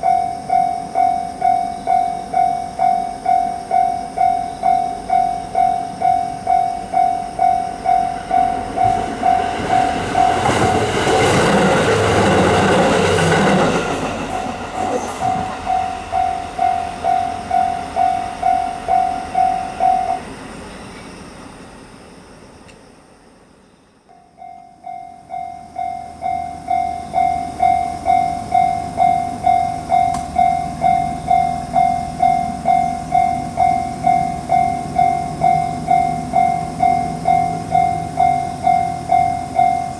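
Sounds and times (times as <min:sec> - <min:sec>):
railroad crossing warning bell: 0:00.0 - 0:23.0, 0:24.0 - 0:39.9
train passing: 0:00.0 - 0:39.9.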